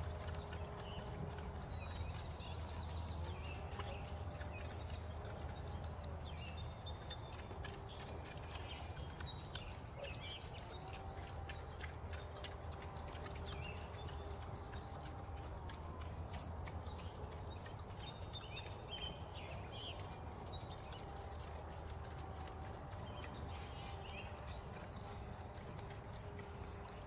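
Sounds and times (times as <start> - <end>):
birds chirping: 0.0 - 27.0
low steady hum: 0.0 - 27.0
pigs crunching feed: 0.0 - 27.0.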